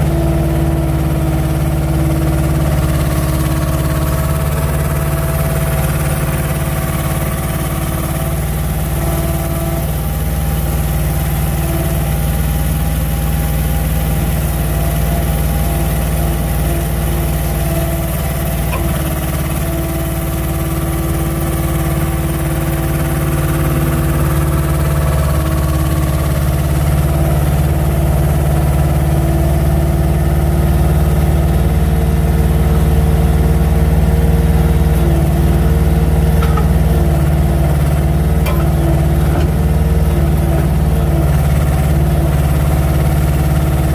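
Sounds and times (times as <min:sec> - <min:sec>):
truck engine droning: 0:00.0 - 0:43.9.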